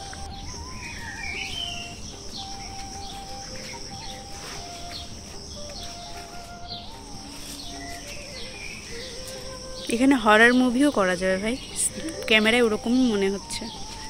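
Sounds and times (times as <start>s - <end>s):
birds chirping: 0.0s - 14.0s
high insect drone: 0.0s - 14.0s
slow melody of held notes: 0.0s - 14.0s.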